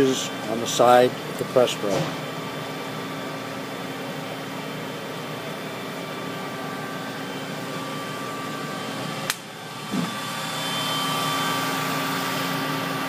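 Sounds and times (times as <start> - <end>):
shop machinery humming: 0.0 - 13.0.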